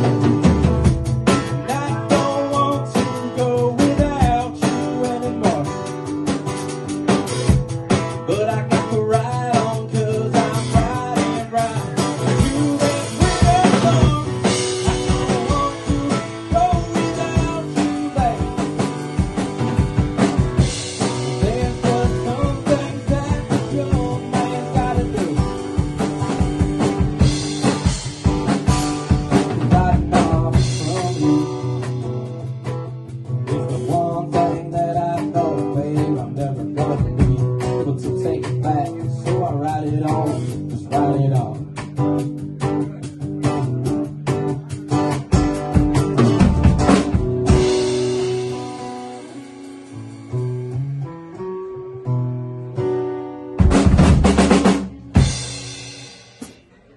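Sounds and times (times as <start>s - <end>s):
drum kit: 0.0s - 51.5s, 52.6s - 56.9s
acoustic guitar strumming: 0.0s - 56.9s.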